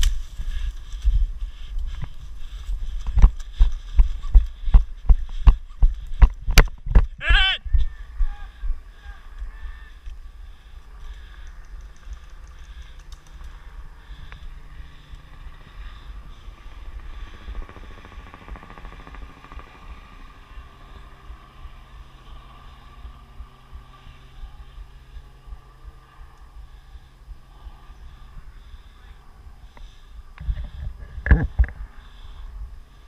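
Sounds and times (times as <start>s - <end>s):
faint steady humming: 0.0s - 33.0s
wind rumble on microphone: 0.0s - 33.0s.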